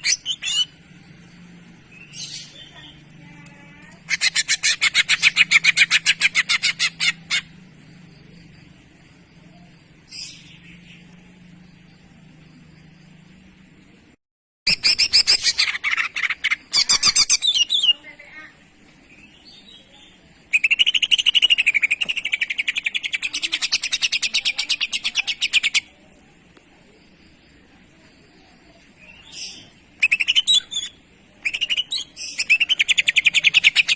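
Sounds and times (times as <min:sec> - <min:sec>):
bird chattering song: 0:00.0 - 0:12.9, 0:14.7 - 0:26.2, 0:26.8 - 0:33.9.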